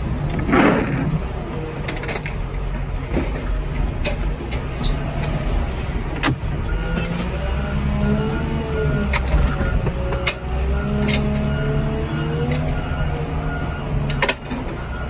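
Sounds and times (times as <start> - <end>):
loader engine running: 0.0 - 15.0.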